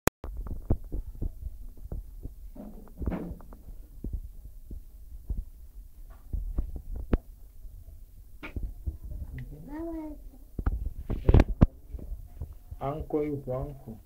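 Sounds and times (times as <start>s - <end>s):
microphone handling noise: 0.2s - 13.8s.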